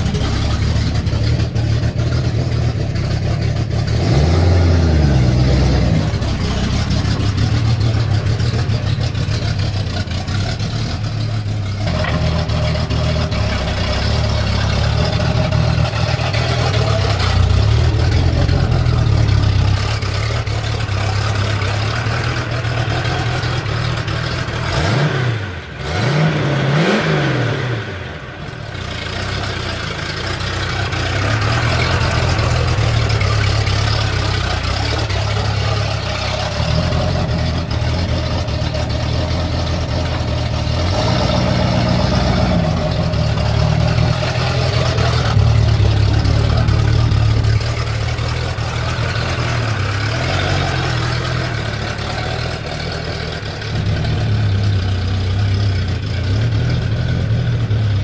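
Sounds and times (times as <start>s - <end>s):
car engine running and revving: 0.0s - 58.0s.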